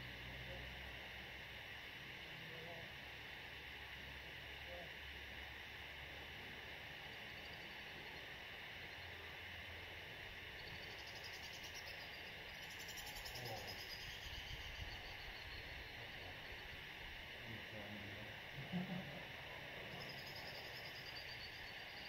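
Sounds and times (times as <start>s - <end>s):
high pulsed insect trill: 0.0s - 22.0s
insects trilling: 0.0s - 22.0s.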